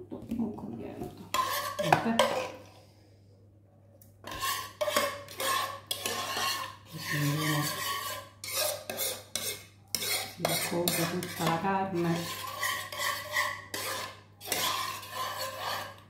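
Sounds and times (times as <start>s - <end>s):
spoon scraping a cooking pot: 1.3s - 2.8s, 4.2s - 16.0s.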